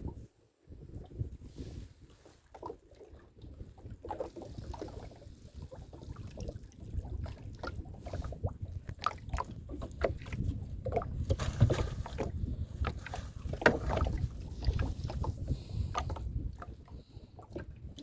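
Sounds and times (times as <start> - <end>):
water splashing against boat hull: 2.3 - 18.0.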